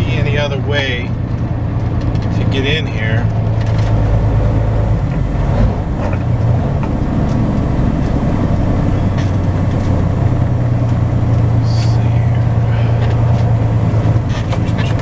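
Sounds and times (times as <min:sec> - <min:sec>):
diesel truck engine humming: 0:00.0 - 0:15.0.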